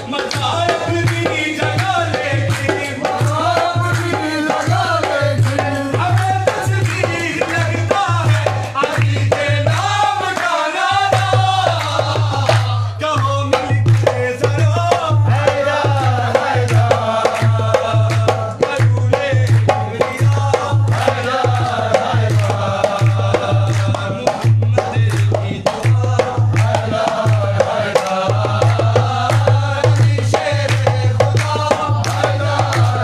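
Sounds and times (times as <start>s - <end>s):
hand drum beating rhythm: 0.0s - 33.0s
man singing lead: 0.0s - 33.0s
men singing along: 0.0s - 33.0s
hand claps: 0.1s - 15.2s, 15.9s - 33.0s.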